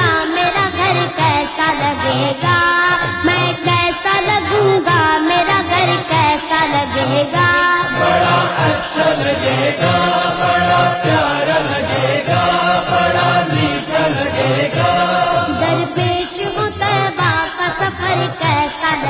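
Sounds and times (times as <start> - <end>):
boys singing in chorus: 0.0 - 19.0.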